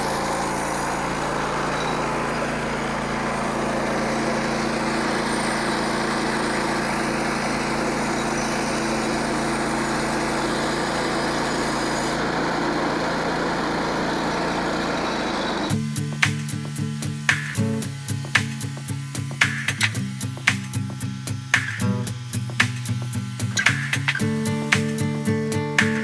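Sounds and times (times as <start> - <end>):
small engine running steadily: 0.0 - 26.0.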